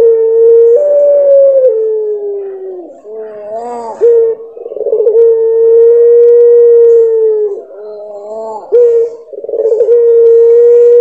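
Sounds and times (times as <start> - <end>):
dove cooing: 0.0 - 11.0.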